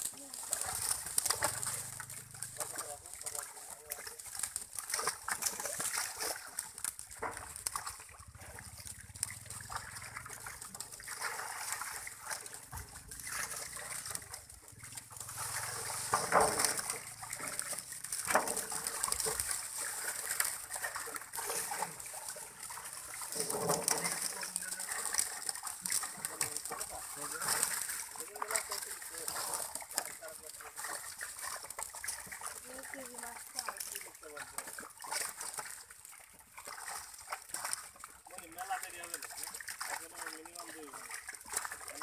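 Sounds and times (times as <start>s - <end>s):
fish thrashing and splashing: 0.0s - 42.0s.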